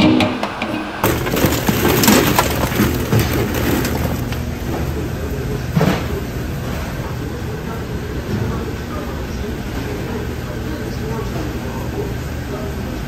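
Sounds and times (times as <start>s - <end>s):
kitchen background noise: 0.0s - 13.0s.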